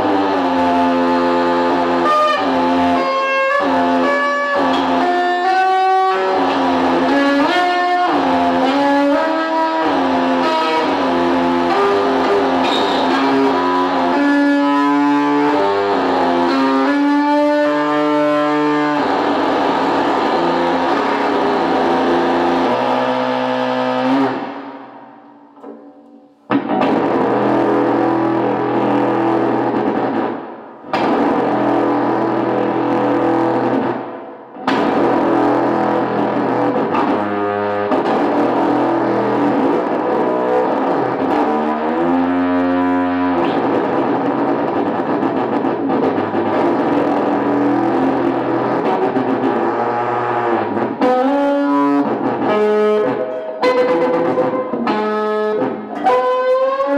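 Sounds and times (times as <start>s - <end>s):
distorted electric guitar feedback: 0.0s - 56.9s.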